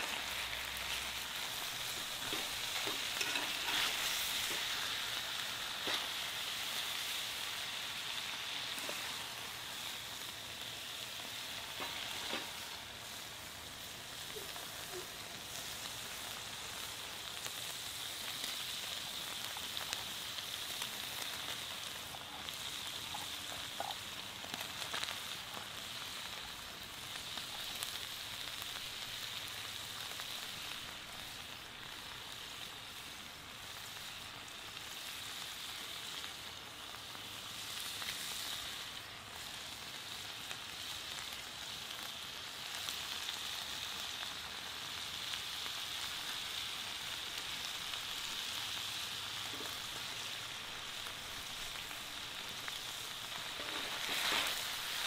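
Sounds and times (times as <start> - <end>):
sauce sizzling in skillet: 0.0 - 55.0.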